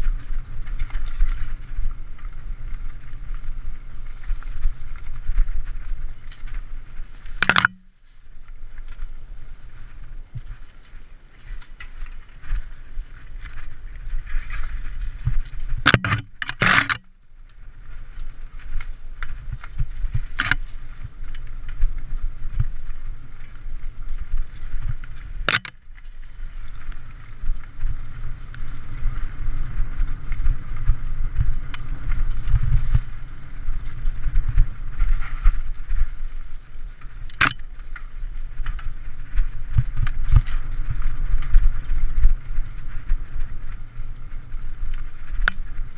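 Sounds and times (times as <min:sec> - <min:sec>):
bike rattling over bumps: 0:00.0 - 0:45.9
wind rumble on microphone: 0:00.0 - 0:45.9.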